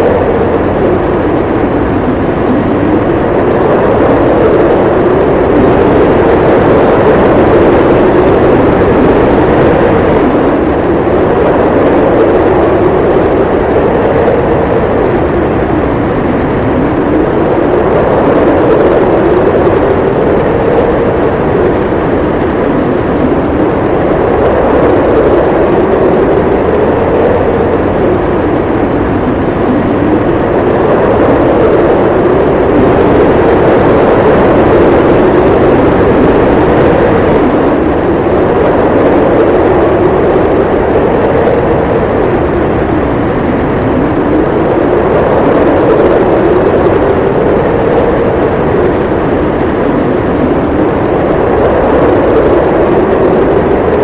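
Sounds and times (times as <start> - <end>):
howling snowstorm wind: 0.0 - 54.0.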